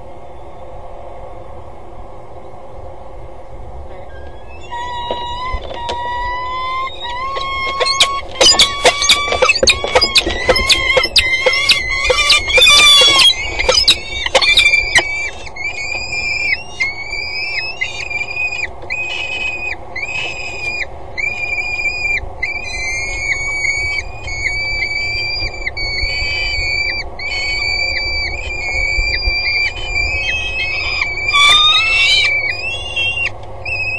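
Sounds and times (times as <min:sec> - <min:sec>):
falcons calling: 0:03.9 - 0:33.9.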